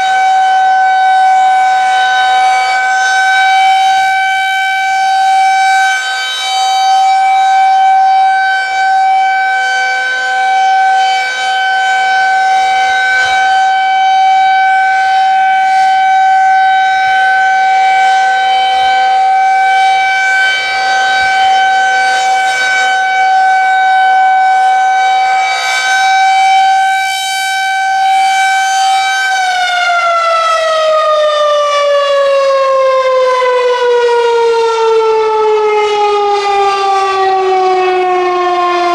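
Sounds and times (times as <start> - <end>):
outdoor warning siren: 0.0 - 38.9.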